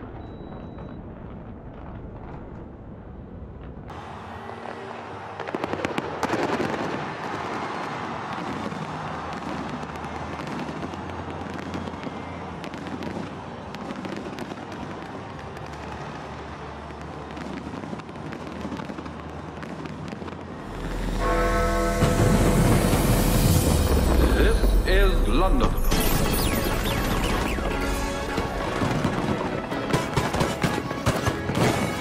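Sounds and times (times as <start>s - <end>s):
fireworks bangs: 4.3s - 32.0s
fireworks crackling and popping: 4.4s - 32.0s.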